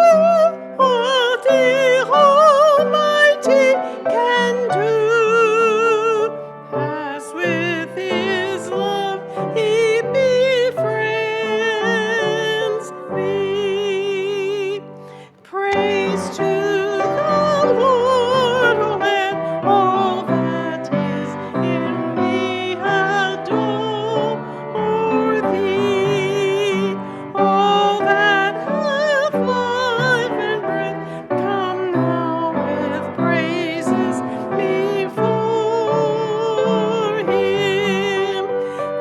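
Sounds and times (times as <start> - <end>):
person singing with vibrato: 0.0 - 39.0
piano accompaniment: 0.0 - 39.0.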